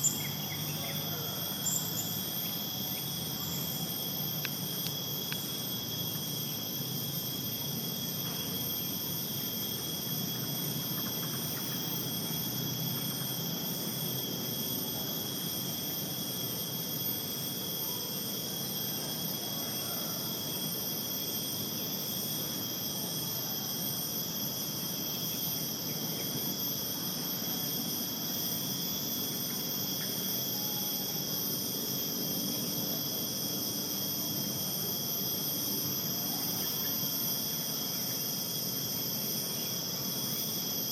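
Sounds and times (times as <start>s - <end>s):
crickets trilling: 0.0s - 40.9s
pulsing insect trill: 0.0s - 40.9s.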